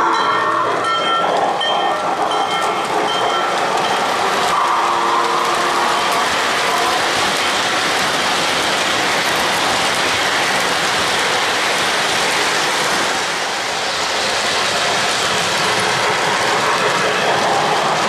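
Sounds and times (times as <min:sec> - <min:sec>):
model train wheels rattling on rails: 0:00.0 - 0:18.0.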